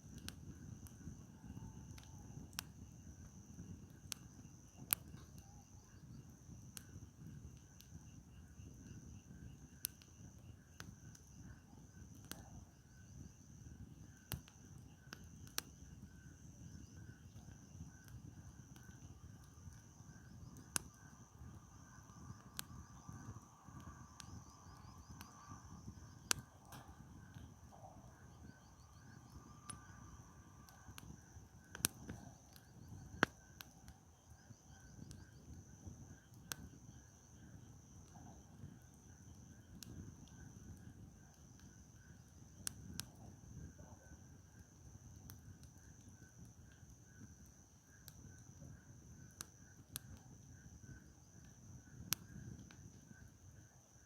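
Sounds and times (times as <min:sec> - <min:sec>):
campfire crackling and popping: 0:00.0 - 0:54.0
insects chirping: 0:00.0 - 0:54.0.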